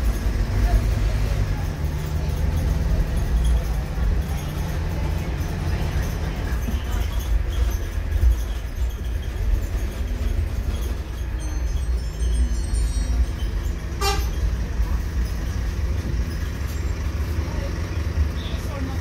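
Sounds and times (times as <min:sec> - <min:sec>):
bus interior engine rumble: 0:00.0 - 0:19.0.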